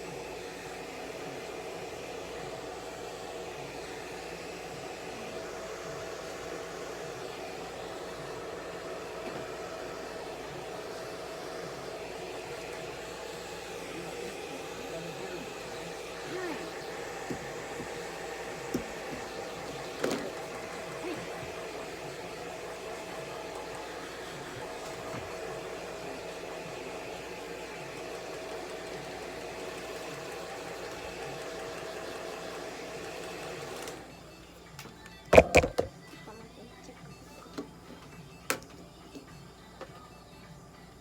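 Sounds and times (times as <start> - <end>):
hair dryer whirring: 0.0 - 34.2.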